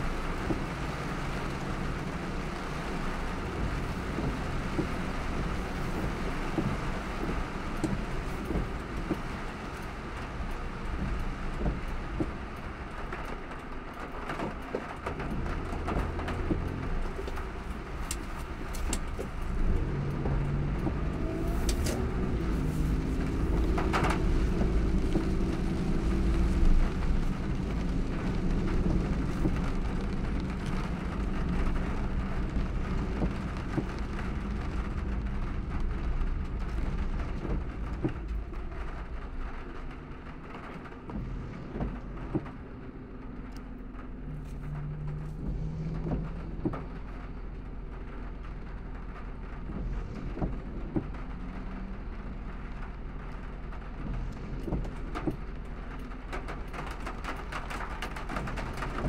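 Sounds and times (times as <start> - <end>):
car engine rumble: 0.0 - 59.0
rain and tyres on wet road: 0.0 - 59.0
sharp raindrop ticks: 0.0 - 59.0.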